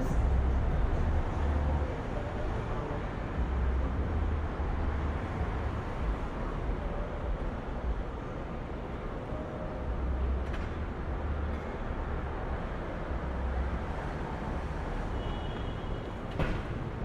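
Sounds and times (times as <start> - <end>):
traffic rumble and road noise: 0.0 - 17.0.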